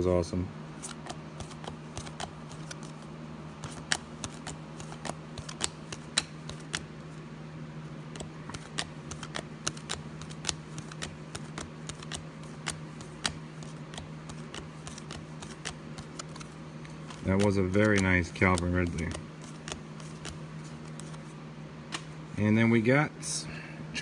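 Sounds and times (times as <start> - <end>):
steady low hum: 0.0 - 24.0
trading cards flipped with clicks: 0.8 - 6.9, 8.1 - 21.3, 21.9 - 22.1.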